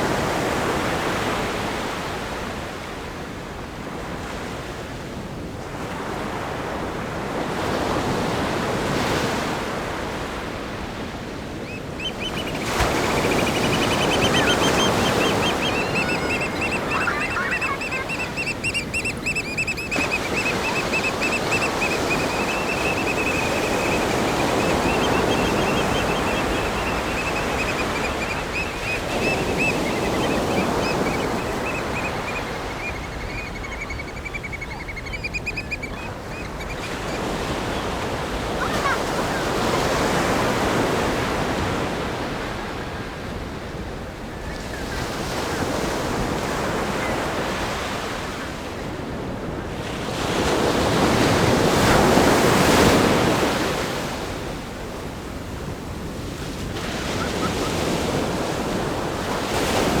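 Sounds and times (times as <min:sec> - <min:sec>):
ocean waves breaking: 0:03.8 - 1:00.0.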